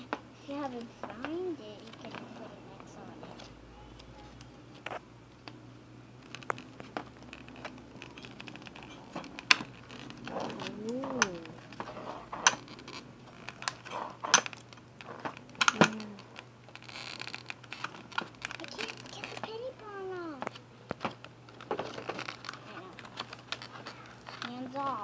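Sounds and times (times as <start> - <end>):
plastic wrap crinkling: 0.0 - 25.0.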